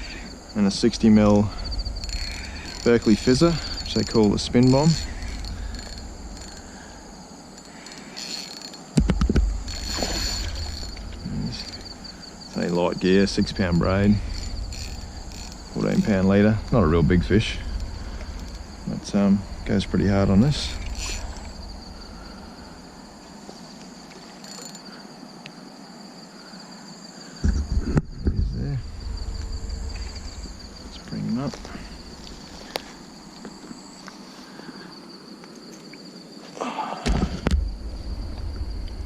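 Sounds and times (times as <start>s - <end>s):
low background hiss: 0.0s - 36.8s
night insects trilling: 0.0s - 39.0s.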